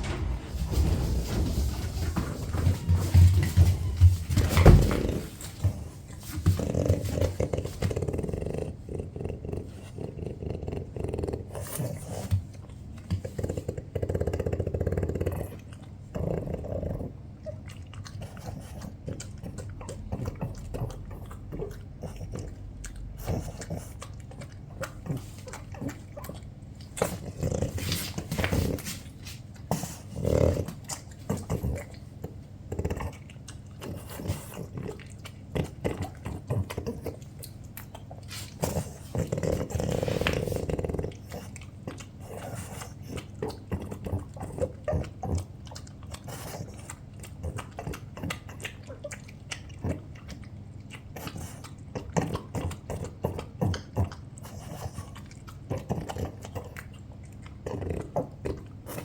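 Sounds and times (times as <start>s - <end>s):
dogs growling: 0.0s - 12.5s, 13.1s - 59.0s.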